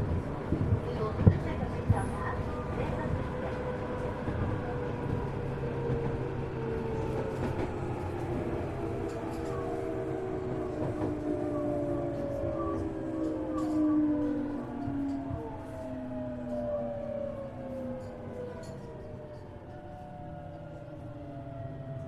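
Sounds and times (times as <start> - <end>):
wheels rumbling on rail: 0.0 - 22.0.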